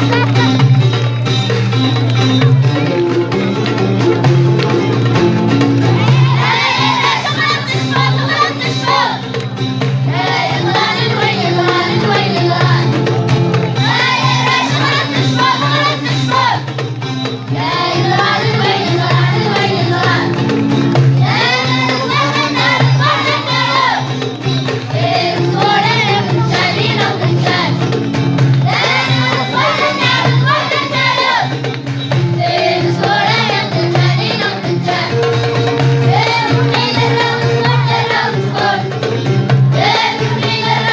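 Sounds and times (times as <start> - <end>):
instrumental backing with drone: 0.0 - 40.9
children singing: 5.8 - 9.4, 10.1 - 16.8, 17.5 - 24.3, 24.9 - 40.9.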